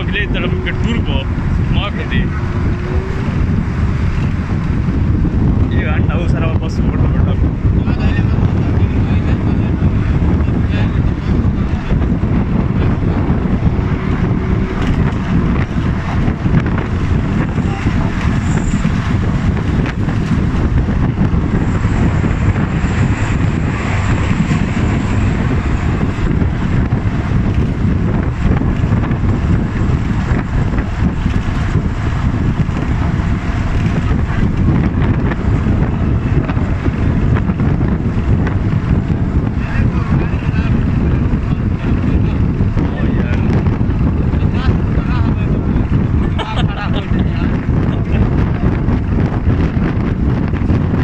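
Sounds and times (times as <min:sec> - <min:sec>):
car road noise: 0:00.0 - 0:51.0
wind on microphone: 0:00.0 - 0:51.0.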